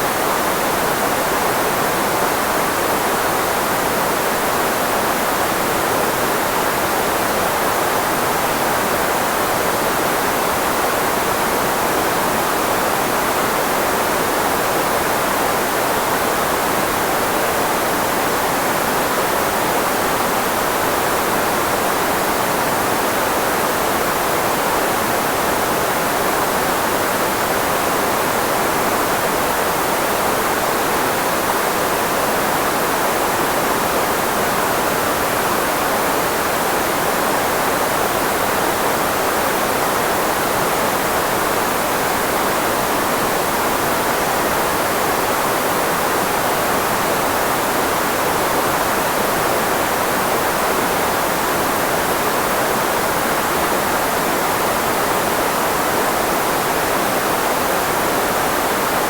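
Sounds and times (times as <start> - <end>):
filtered white noise: 0.0 - 59.0.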